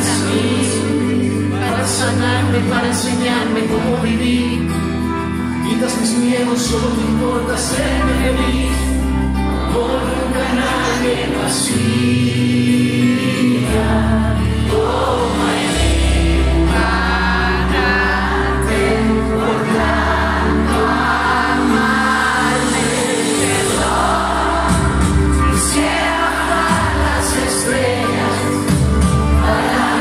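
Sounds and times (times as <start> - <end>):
crowd singing together: 0.0 - 30.0
live pop ballad band: 0.0 - 30.0.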